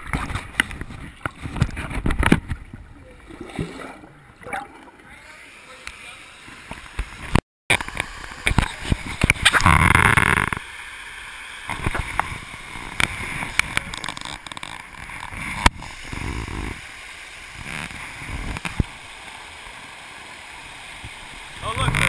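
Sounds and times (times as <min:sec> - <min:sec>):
creek cascade splashing and gurgling: 0:00.0 - 0:22.0
surges of rushing water: 0:00.0 - 0:22.0.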